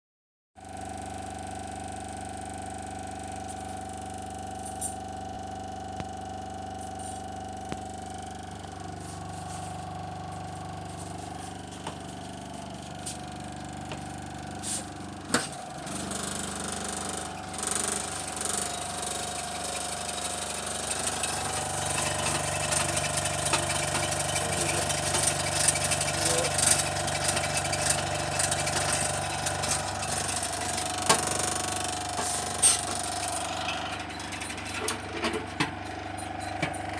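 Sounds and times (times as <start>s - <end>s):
refrigerator compressor humming: 0.6s - 36.9s.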